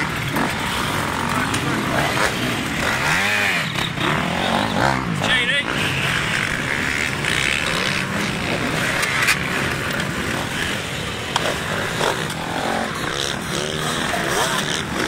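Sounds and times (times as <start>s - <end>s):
dirt bike engines passing: 0.0s - 15.0s.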